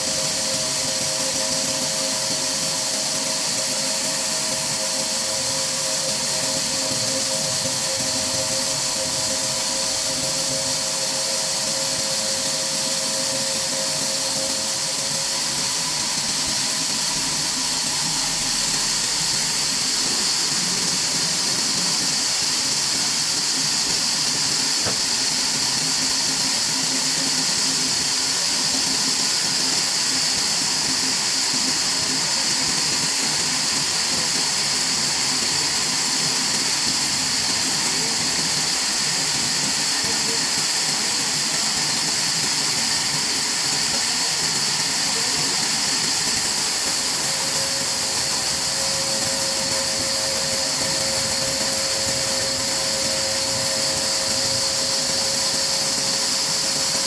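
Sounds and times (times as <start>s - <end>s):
machinery hissing whir: 0.0s - 57.0s.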